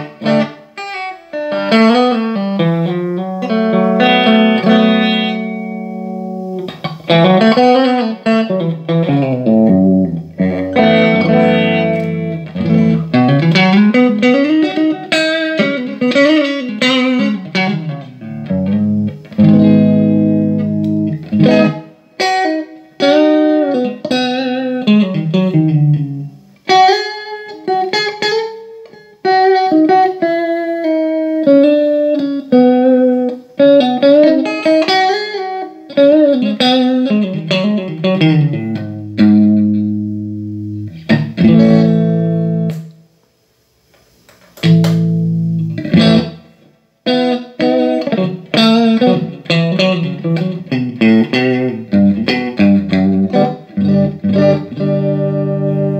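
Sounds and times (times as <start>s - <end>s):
electric guitar playing: 0.0s - 43.2s, 43.8s - 55.9s.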